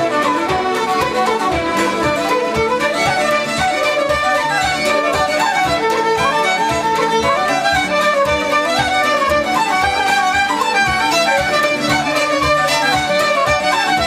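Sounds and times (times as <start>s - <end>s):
fiddle playing lively melody: 0.0s - 14.0s
rhythmic accompaniment: 0.0s - 14.0s.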